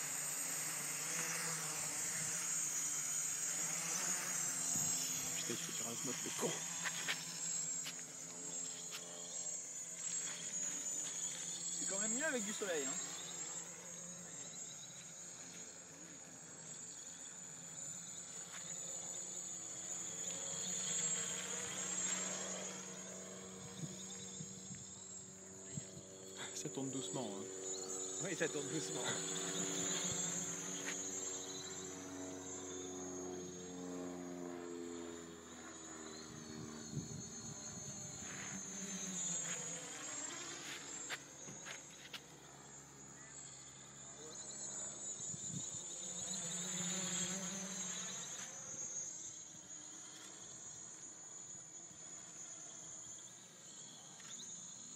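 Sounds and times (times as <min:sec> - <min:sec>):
quadcopter buzzing whine: 0:00.0 - 0:54.9.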